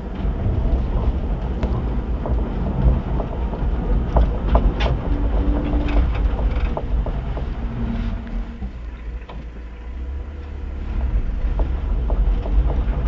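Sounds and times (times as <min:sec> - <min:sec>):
car road rumble: 0:00.0 - 0:13.0.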